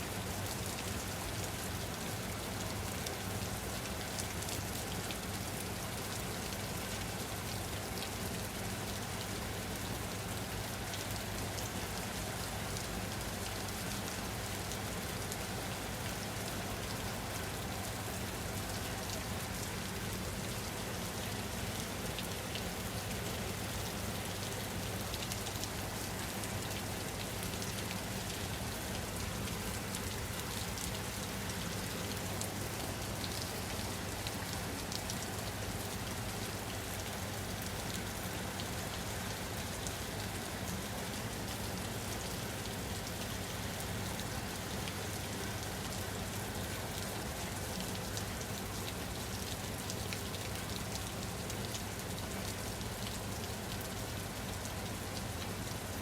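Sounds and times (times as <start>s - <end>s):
steady rain on a surface: 0.0s - 56.0s.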